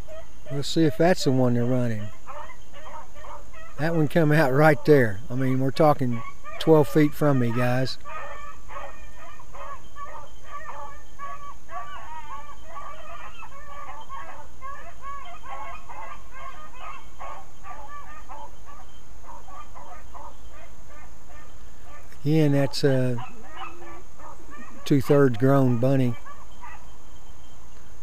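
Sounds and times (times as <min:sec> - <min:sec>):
dogs yipping and barking: 0:00.0 - 0:27.6.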